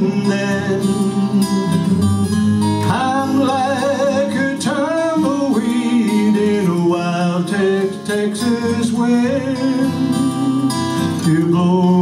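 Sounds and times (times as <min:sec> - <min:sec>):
man singing: 0:00.0 - 0:12.0
strummed acoustic guitars: 0:00.0 - 0:12.0.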